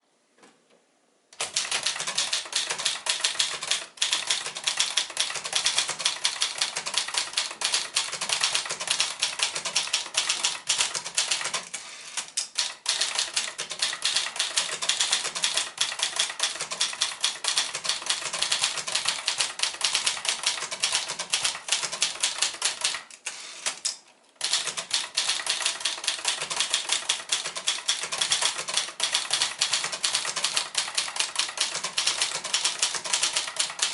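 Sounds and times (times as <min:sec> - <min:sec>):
manual typewriter typing: 0:01.4 - 0:33.9.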